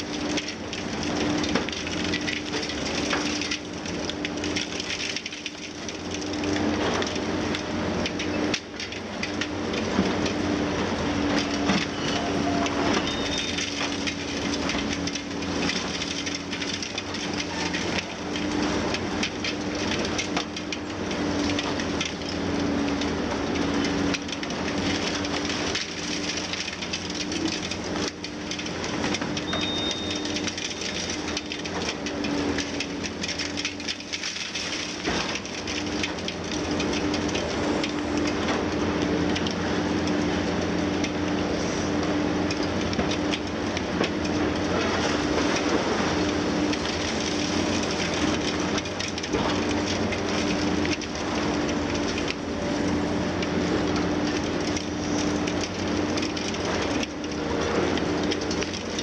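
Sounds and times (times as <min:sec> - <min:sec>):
diesel engine and hydraulics hum: 0:00.0 - 0:59.0.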